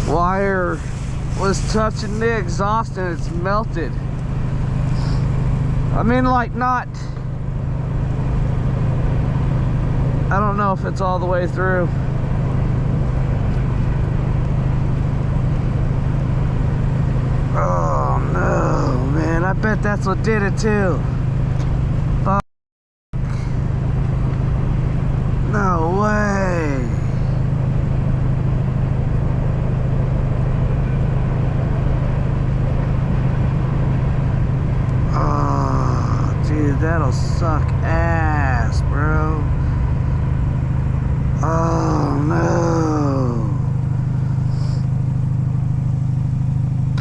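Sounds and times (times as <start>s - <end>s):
vehicle engine idling: 0.0s - 22.4s, 23.2s - 47.0s.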